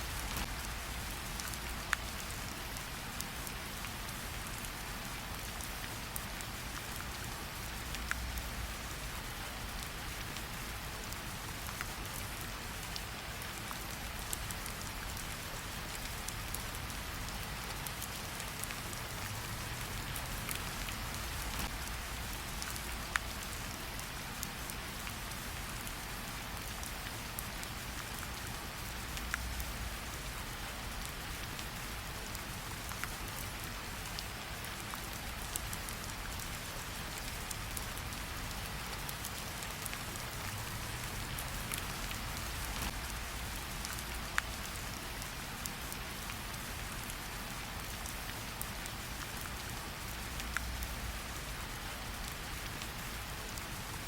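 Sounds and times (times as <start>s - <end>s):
campfire crackles: 0.0s - 54.0s
rain falling: 0.0s - 54.0s.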